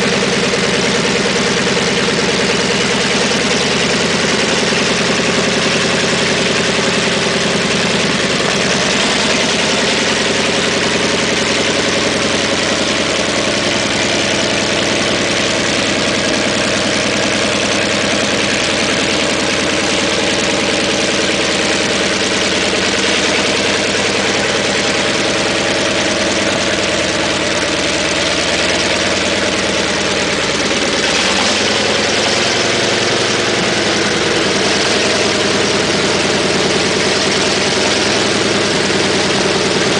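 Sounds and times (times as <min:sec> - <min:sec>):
tank engine idling: 0:00.0 - 0:39.9.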